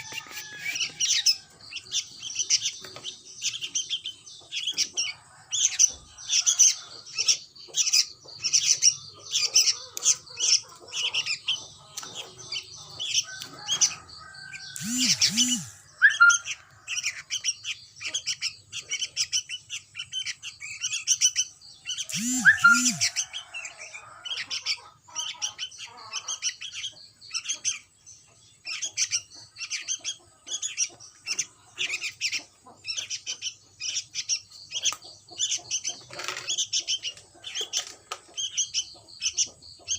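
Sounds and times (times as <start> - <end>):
young birds chirping: 0.0 - 39.9.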